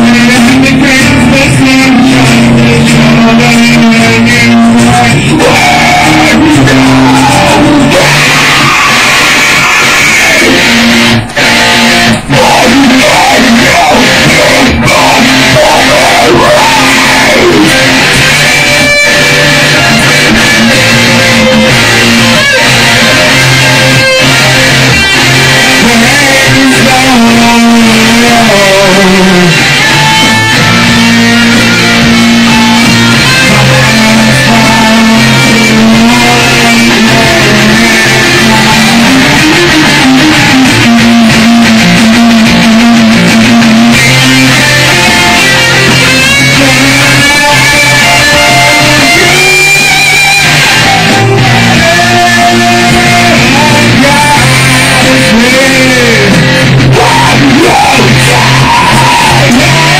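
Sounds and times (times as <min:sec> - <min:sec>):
electric guitar sustained notes: 0:00.0 - 0:59.9
person singing into a microphone: 0:00.0 - 0:59.9.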